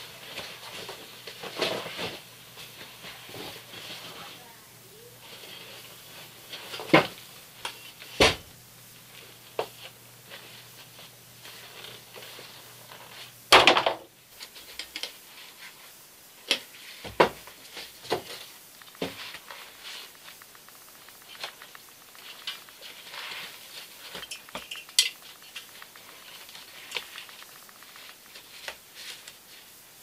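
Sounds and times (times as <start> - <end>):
rustling: 0.0 - 13.6, 14.3 - 30.0.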